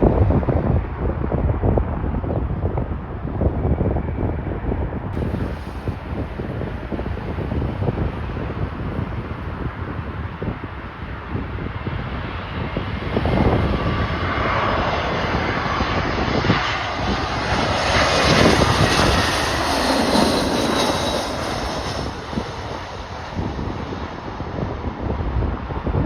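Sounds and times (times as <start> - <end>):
jet airliner passing: 0.0 - 26.0
jet engine whine: 0.0 - 26.0
wind buffeting microphone: 0.0 - 26.0.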